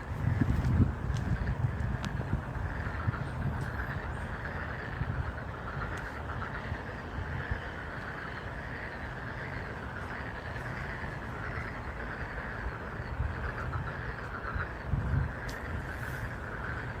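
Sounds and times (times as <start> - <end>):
chorus of frogs calling: 0.0 - 17.0
wind rumbling on microphone: 0.0 - 17.0.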